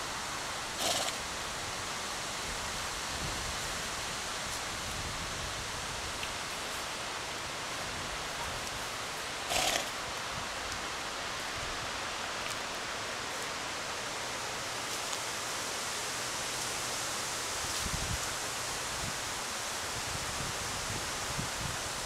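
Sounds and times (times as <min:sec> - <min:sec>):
rustling leaves: 0:00.0 - 0:22.0
wind: 0:00.0 - 0:22.0.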